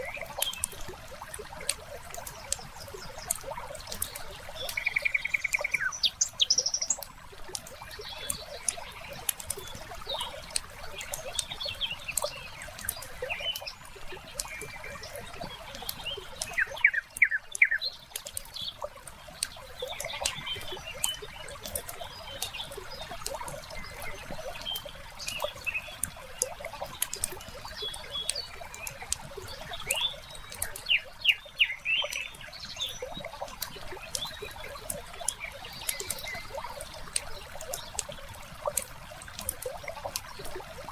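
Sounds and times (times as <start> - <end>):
trickling water: 0.0 - 40.9
birds chirping: 2.2 - 38.8.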